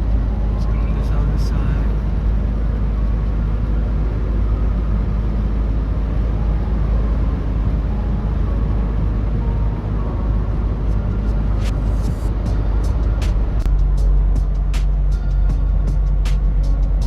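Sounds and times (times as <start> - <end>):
engine and road noise in cab: 0.0 - 17.0.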